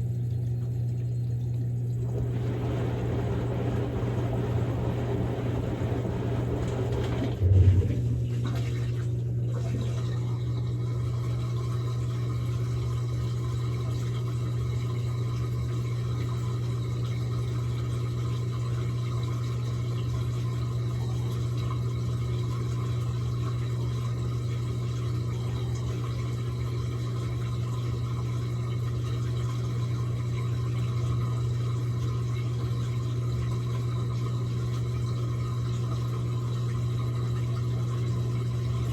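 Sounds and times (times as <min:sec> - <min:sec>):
washing machine humming: 0:00.0 - 0:38.9
water rushing into washing machine: 0:00.0 - 0:38.9.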